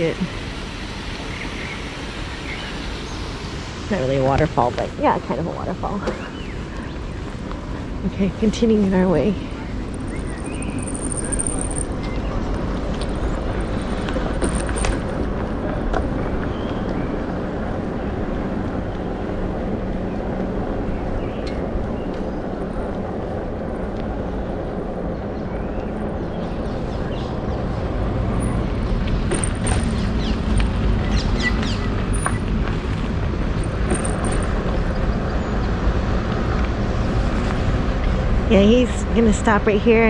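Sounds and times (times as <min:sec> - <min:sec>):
bicycle tyres rolling on pavement: 0:00.0 - 0:40.0.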